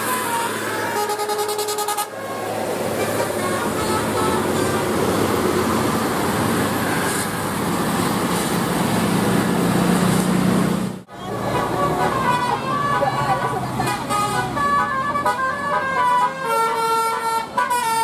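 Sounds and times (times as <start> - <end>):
bus engine running: 0.0 - 18.0
roadside traffic noise: 0.0 - 18.0.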